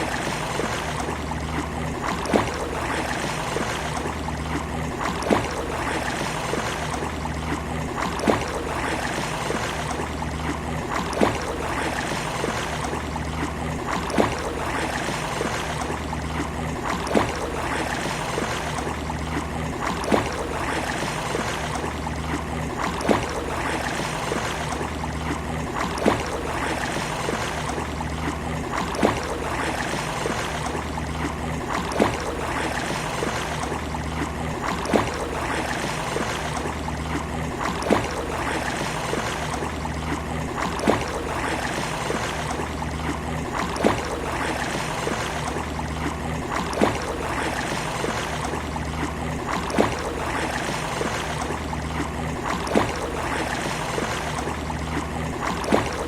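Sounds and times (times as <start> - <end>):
sea water washing on beach: 0.0 - 56.0.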